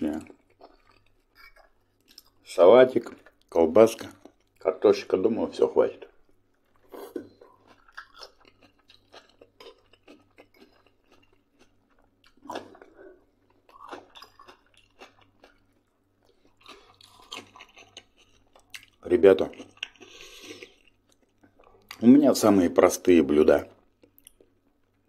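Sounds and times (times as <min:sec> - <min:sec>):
wet chewing: 0:00.1 - 0:04.8, 0:06.1 - 0:22.1.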